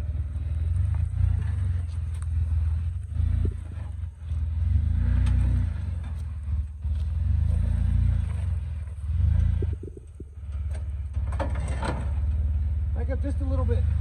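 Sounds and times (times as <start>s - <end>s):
engine rumbling at crawling speed: 0.0s - 14.0s.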